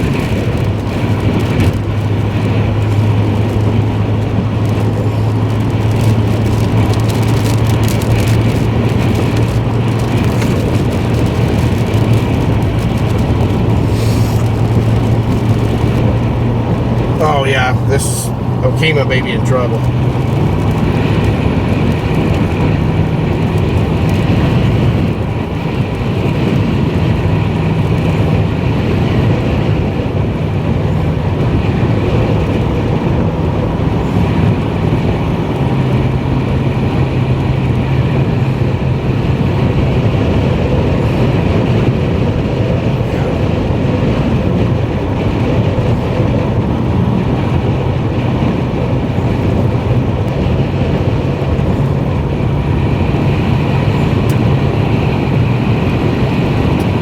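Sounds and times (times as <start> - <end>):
car driving: 0.0 - 57.0.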